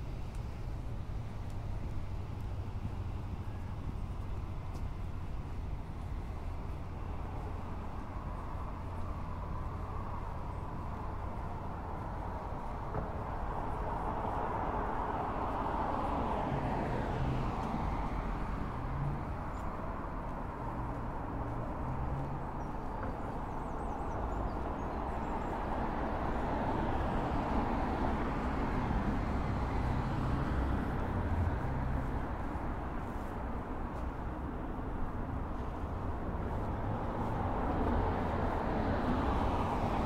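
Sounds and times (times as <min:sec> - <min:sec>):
road traffic hum: 0:00.0 - 0:40.0
vehicles passing: 0:00.0 - 0:40.0.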